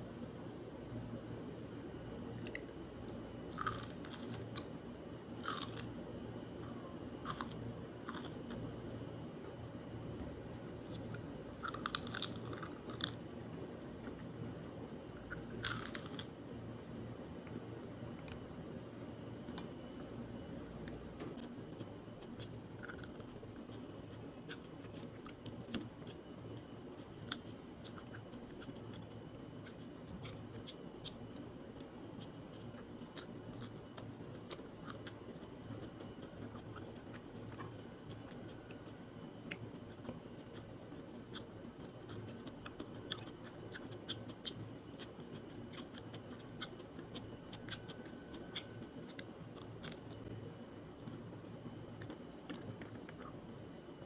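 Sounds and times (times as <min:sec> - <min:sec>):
crunchy chewing of raw vegetables: 0:02.3 - 0:09.2, 0:10.2 - 0:16.6, 0:19.5 - 0:54.0.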